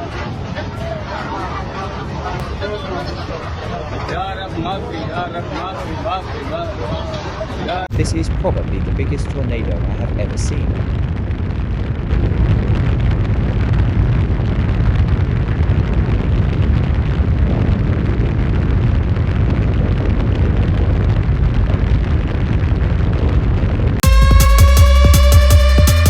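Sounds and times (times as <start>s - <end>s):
wind roaring across microphone: 2.0s - 24.0s.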